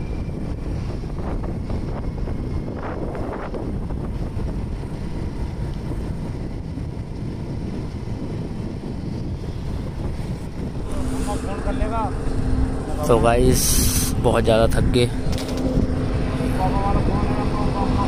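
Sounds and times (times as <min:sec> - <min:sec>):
scooter engine and road noise: 0:00.0 - 0:18.0
wind buffeting microphone: 0:00.0 - 0:18.0.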